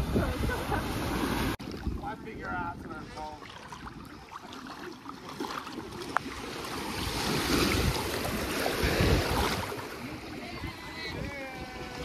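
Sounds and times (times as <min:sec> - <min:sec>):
rushing sea water: 0:00.0 - 0:12.0
wind buffeting microphone: 0:00.0 - 0:12.0.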